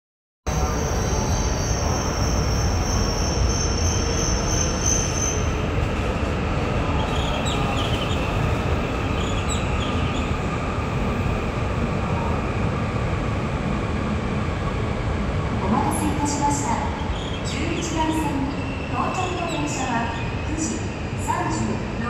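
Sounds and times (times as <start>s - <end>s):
train rumble and rushing: 0.5s - 22.0s.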